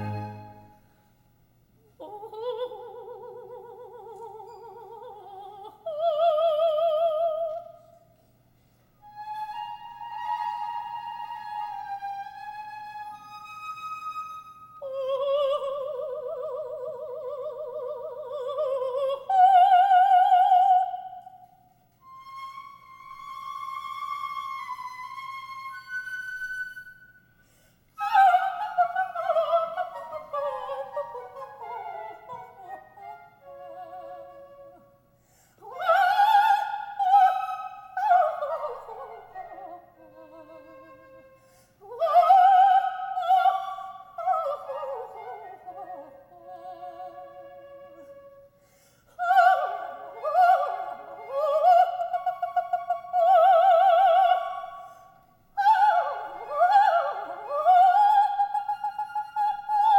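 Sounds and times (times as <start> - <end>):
soprano singing: 0.0 - 0.9, 1.9 - 8.0, 9.0 - 27.1, 28.0 - 35.0, 35.6 - 48.6, 49.2 - 54.9, 55.6 - 59.9
solo flute: 0.0 - 1.1, 9.0 - 27.4, 28.0 - 35.1, 35.7 - 59.9.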